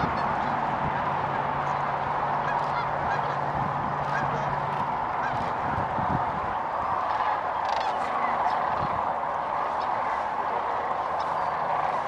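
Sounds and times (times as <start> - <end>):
flock of cranes calling: 0.0 - 12.0.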